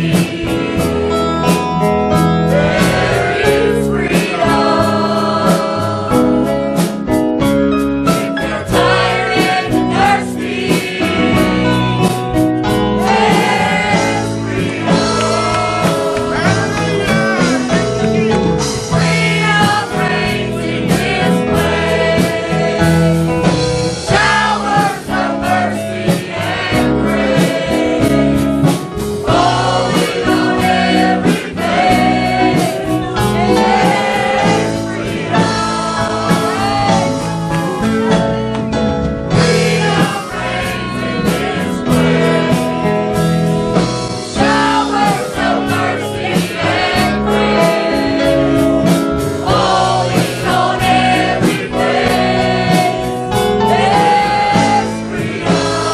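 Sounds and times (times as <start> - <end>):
choir singing: 0.0 - 7.0, 8.0 - 38.4, 39.3 - 55.9
band playing steady beat: 0.0 - 55.9.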